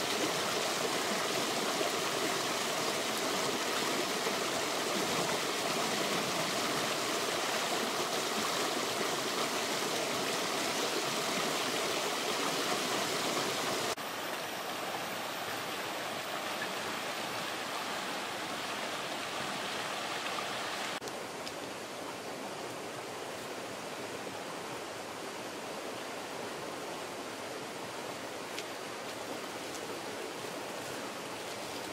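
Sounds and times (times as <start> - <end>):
stream water rushing: 0.0 - 31.9.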